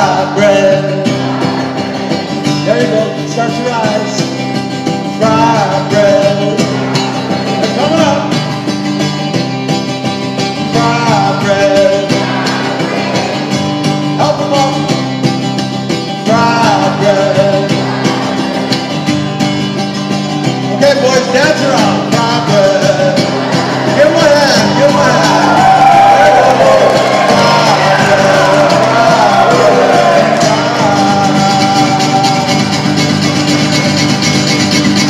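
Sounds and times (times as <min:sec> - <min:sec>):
man singing: 0:00.0 - 0:08.5, 0:10.5 - 0:15.2, 0:16.1 - 0:19.8, 0:20.6 - 0:34.1
acoustic guitar strumming: 0:00.0 - 0:35.0.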